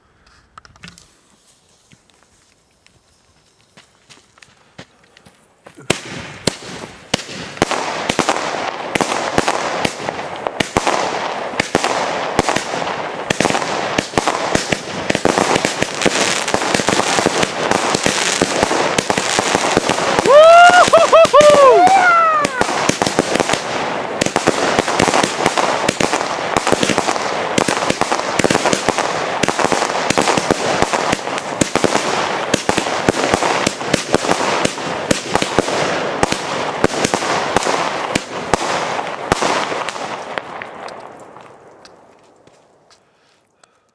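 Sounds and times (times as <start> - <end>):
fireworks battery firing: 5.9 - 41.4.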